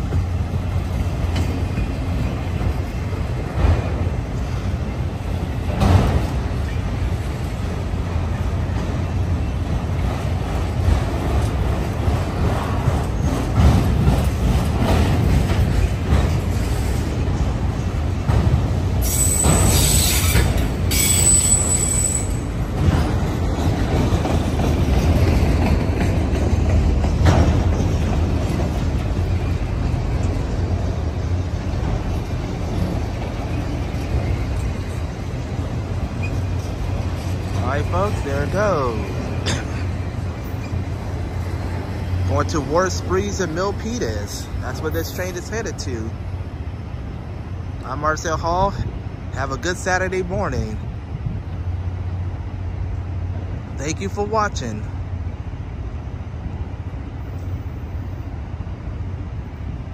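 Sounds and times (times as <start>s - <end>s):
freight train rumbling past: 0.0s - 59.9s
train cars rattling: 0.0s - 59.9s.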